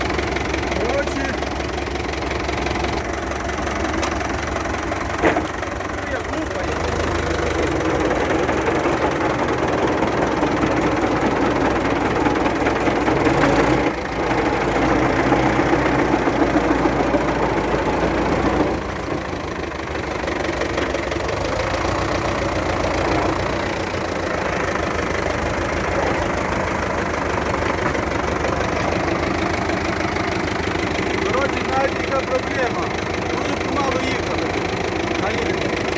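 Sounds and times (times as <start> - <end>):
gearbox knocking: 0.0 - 35.9
tractor diesel engine running: 0.0 - 35.9.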